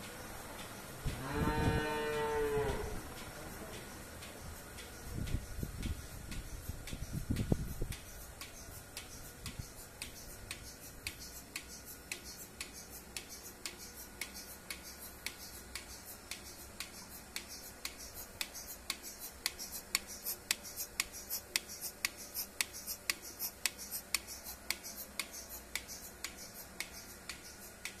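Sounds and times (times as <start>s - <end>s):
low steady hum: 0.0s - 28.0s
milking machine pulsator clicking: 0.0s - 28.0s.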